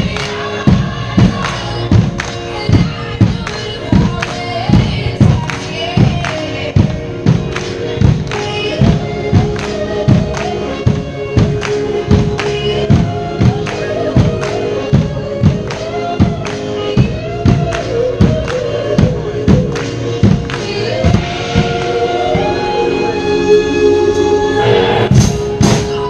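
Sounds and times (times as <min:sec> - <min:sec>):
drum kits playing steady beat: 0:00.0 - 0:24.3, 0:25.0 - 0:26.0
choir singing: 0:00.0 - 0:26.0.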